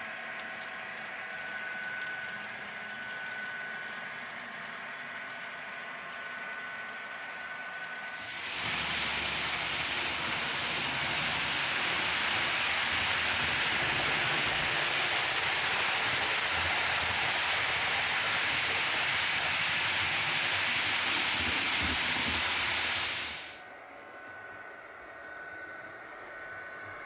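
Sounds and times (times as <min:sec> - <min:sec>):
model train wheels on rails: 0:00.0 - 0:27.0.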